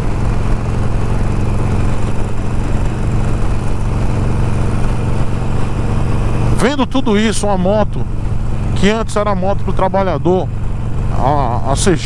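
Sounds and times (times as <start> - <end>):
motorcycle engine cruising: 0.0 - 12.0
road and wind rush: 0.0 - 12.0.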